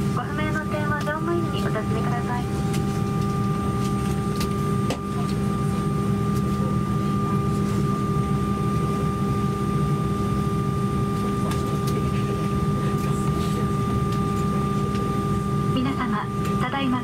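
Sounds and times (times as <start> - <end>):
air-conditioning rush: 0.0 - 17.0
airliner cabin hum: 0.0 - 17.0.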